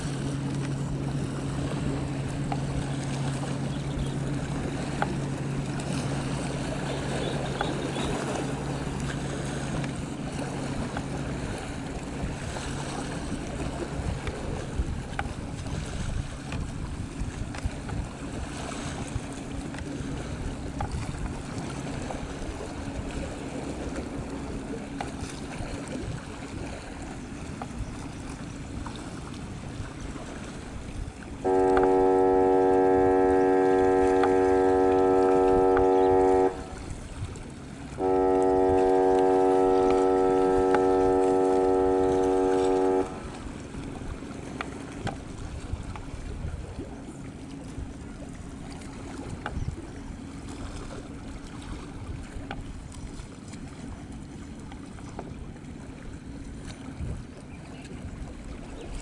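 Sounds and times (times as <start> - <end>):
ship's horn blasts: 0.0 - 52.5
wind and water rushing: 0.0 - 59.0.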